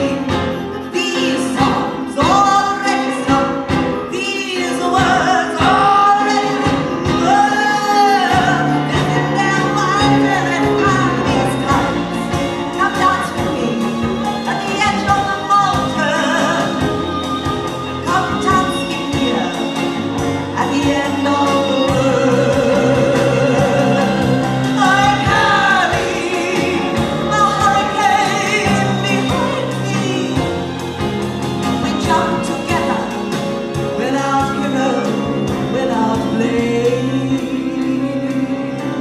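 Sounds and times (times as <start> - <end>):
woman singing with vibrato: 0.0 - 31.0, 31.7 - 39.0
live band playing: 0.0 - 39.0.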